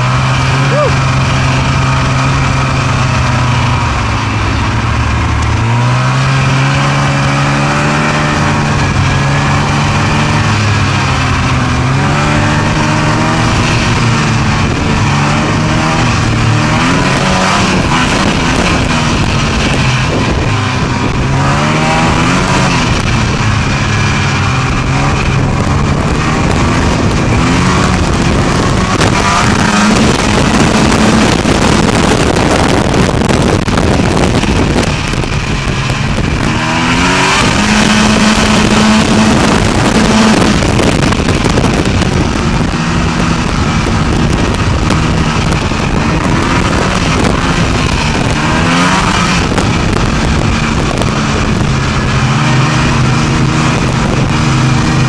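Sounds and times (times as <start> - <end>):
snowmobile engine: 0.0 - 55.0.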